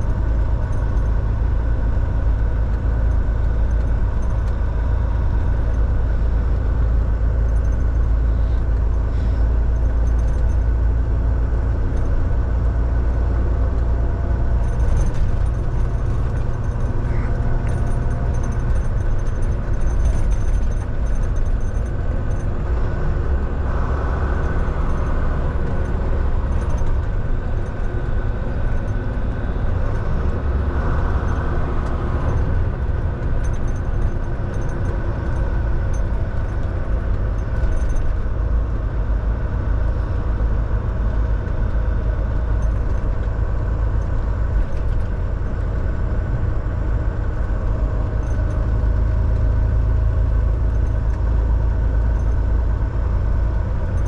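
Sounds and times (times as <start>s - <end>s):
road and tyre noise: 0.0s - 54.0s
truck diesel engine drone: 0.0s - 54.0s.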